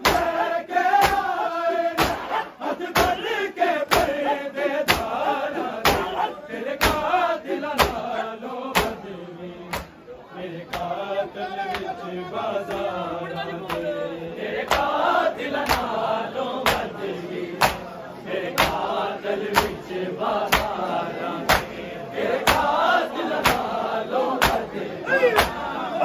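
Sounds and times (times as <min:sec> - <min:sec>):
crowd chanting: 0:00.0 - 0:26.0.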